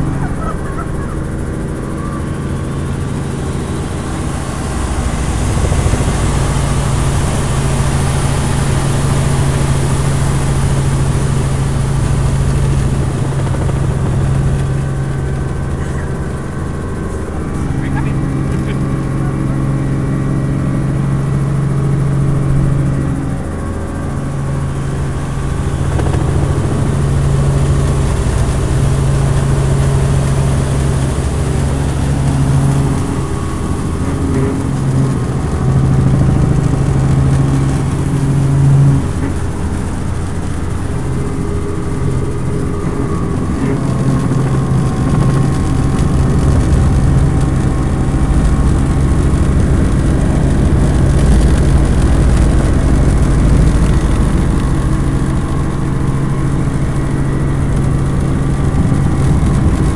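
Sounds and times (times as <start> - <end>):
helicopter engine and rotor drone: 0.0 - 59.9
low hum: 0.0 - 59.9.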